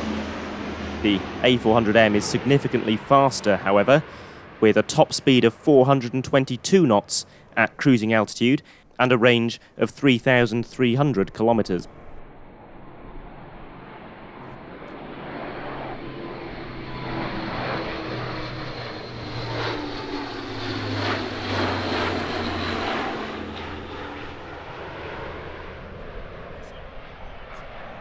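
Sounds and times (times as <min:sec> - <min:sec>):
turboprop aircraft flying past: 0:00.0 - 0:28.0.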